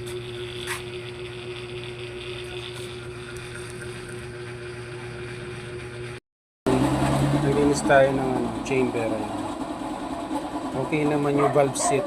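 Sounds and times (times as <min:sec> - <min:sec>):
steady motor hum: 0:00.0 - 0:12.0.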